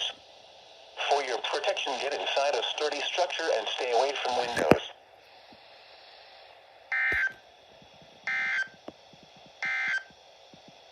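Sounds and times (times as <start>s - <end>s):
faint radio hiss: 0.0s - 10.9s.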